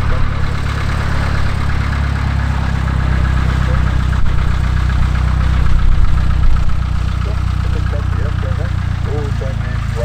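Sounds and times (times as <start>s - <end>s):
light aircraft engine droning: 0.0s - 10.0s.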